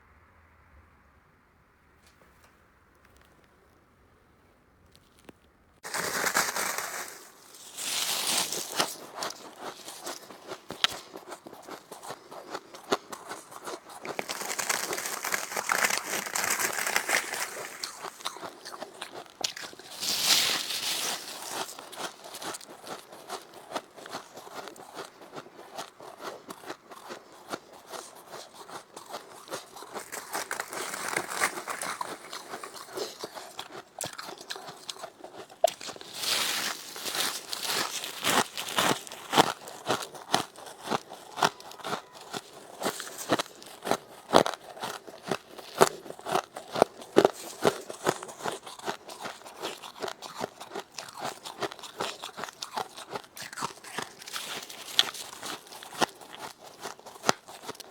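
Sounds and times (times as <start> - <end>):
frost being chewed crunching: 4.9 - 57.9.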